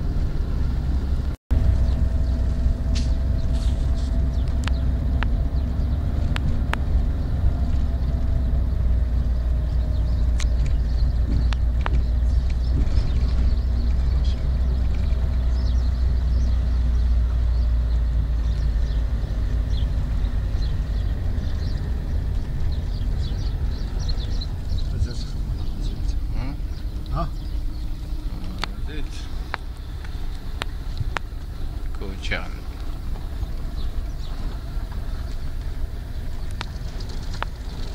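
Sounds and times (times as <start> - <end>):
car engine and tyres on dirt road: 0.0 - 37.9.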